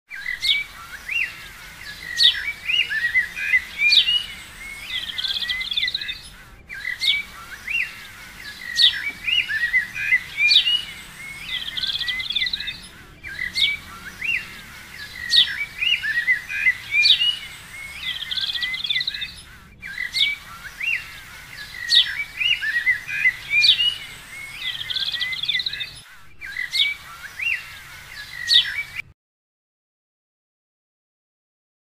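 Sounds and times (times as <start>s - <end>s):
birdsong chirps and trills: 0.1s - 29.1s.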